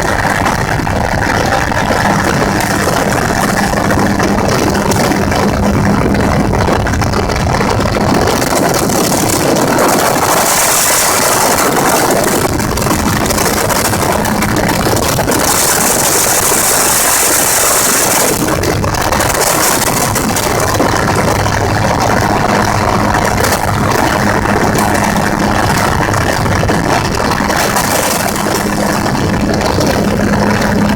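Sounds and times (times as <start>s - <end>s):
aircraft engine and propeller: 0.0s - 30.9s
wind noise: 0.0s - 30.9s.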